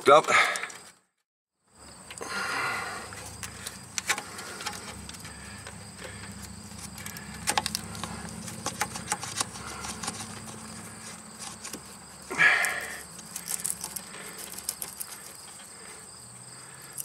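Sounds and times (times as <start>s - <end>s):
insects chirping: 0.1s - 17.0s.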